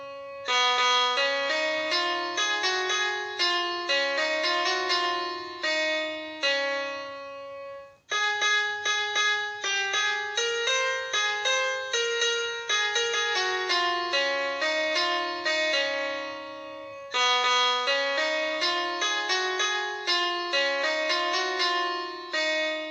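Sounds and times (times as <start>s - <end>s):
light keyboard melody: 0.0s - 22.9s.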